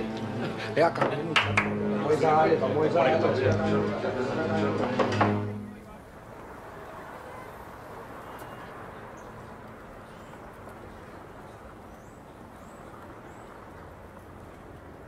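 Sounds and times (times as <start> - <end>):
street ambience: 0.0 - 15.0.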